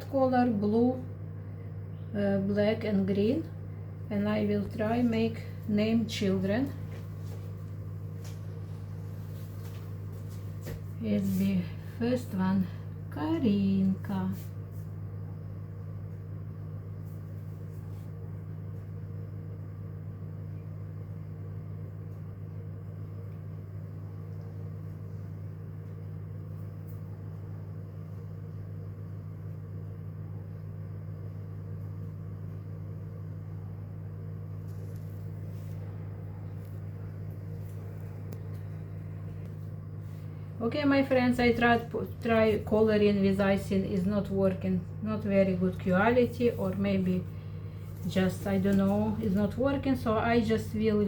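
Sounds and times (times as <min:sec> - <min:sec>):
kitchen appliance humming: 0:00.0 - 0:51.0.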